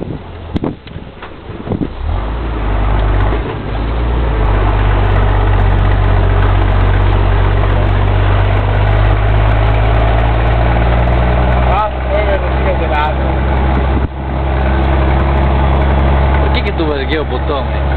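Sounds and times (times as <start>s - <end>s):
diesel truck engine under load: 0.0s - 17.9s.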